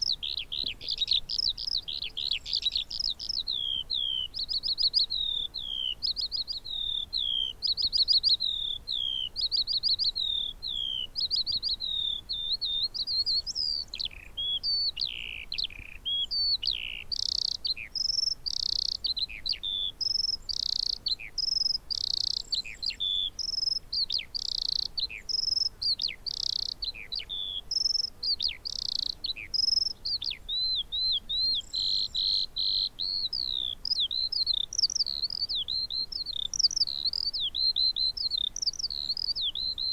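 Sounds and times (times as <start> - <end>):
skylark singing: 0.0 - 39.9.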